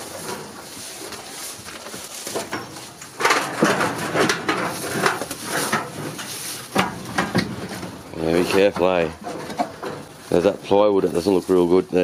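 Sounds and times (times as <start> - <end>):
clattering of corrugated iron sheets: 0.0 - 12.0
rustling dry weeds: 0.0 - 12.0.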